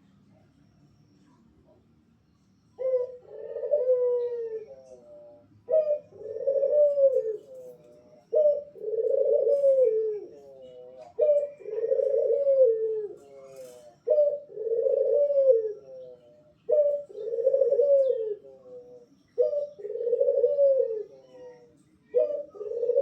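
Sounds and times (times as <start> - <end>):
dove cooing: 2.8 - 23.0.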